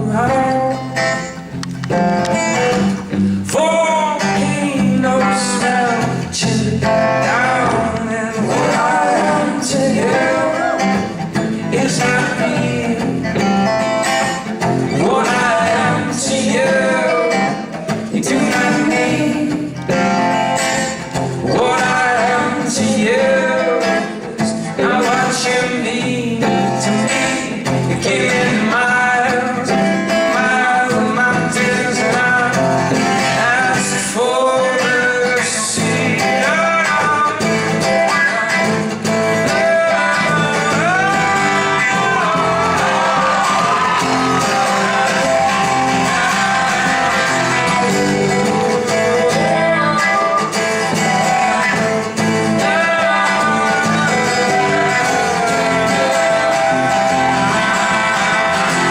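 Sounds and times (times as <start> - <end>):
person singing: 0.0 - 58.9
strummed acoustic guitar: 0.0 - 58.9.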